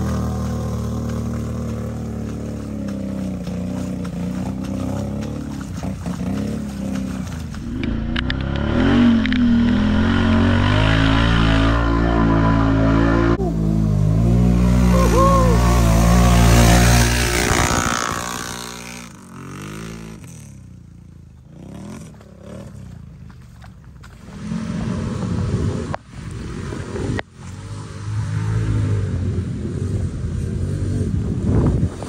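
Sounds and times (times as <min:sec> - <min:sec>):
atv engine revving: 0:00.0 - 0:23.2, 0:27.4 - 0:32.0.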